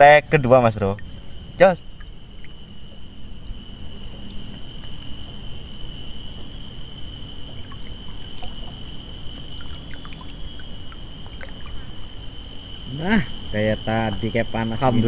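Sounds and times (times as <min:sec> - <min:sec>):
high-pitched insect buzzing: 0:00.0 - 0:15.0
faint ticks: 0:01.9 - 0:14.3.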